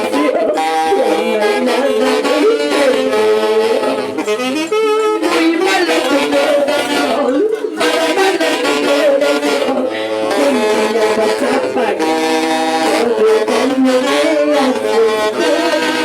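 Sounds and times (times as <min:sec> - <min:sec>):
saxophone orchestra music: 0:00.0 - 0:16.0.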